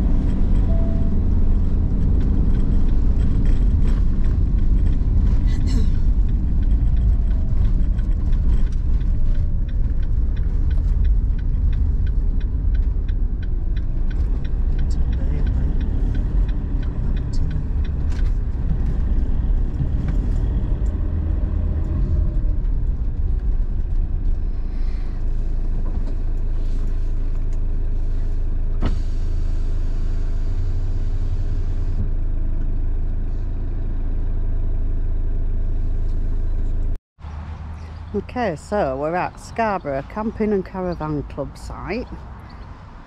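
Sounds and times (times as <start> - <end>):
motorhome engine: 0.0 - 43.0
road rumble: 0.0 - 43.0.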